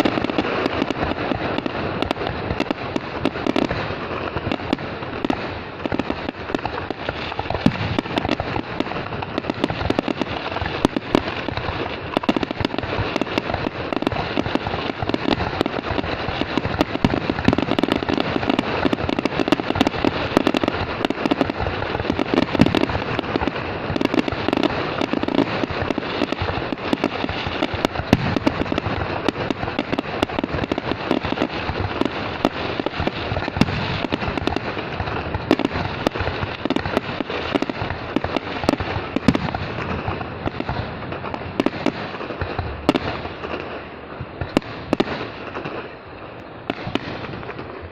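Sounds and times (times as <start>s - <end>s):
fireworks bangs and crackles: 0.0s - 47.9s.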